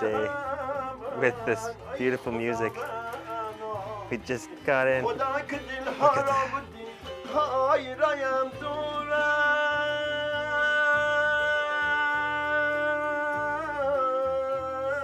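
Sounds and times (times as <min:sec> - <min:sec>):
plucked long-necked lute: 0:00.0 - 0:15.0.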